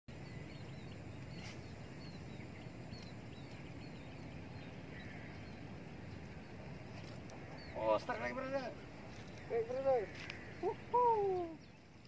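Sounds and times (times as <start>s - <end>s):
bird chirping: 0.1s - 12.0s
steady low rumble: 0.1s - 12.0s.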